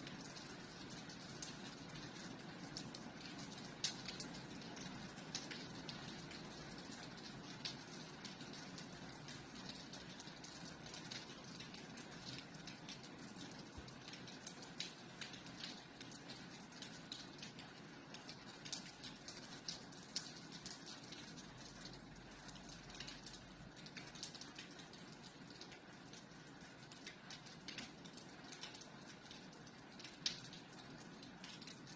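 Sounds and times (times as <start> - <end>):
soft rain hiss: 0.0 - 31.9.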